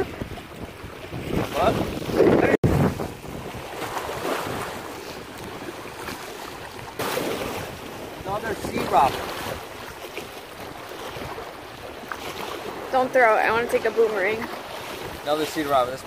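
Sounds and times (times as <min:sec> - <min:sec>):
waves splashing against rocks: 0:00.0 - 0:16.0
wind buffeting microphone: 0:00.0 - 0:16.0.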